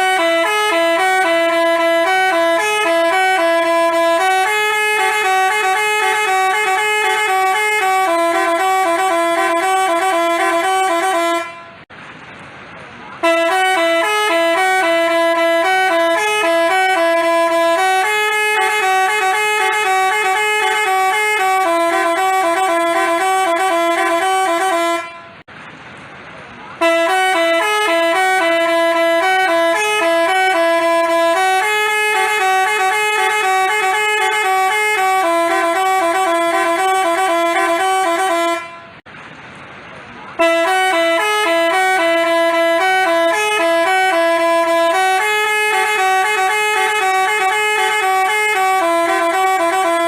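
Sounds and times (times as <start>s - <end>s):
musical bus horn playing a tune: 0.0s - 11.9s, 13.2s - 25.5s, 26.8s - 39.1s, 40.4s - 50.0s.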